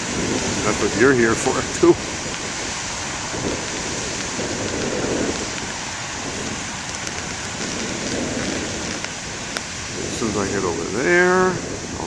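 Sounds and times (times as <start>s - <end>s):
ocean waves breaking: 0.0s - 12.0s
wind on microphone: 0.0s - 12.0s.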